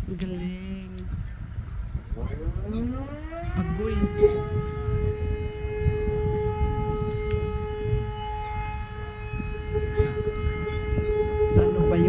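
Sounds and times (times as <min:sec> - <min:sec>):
warning siren steady high note: 0:00.0 - 0:12.0
wind buffeting microphone: 0:00.0 - 0:12.0.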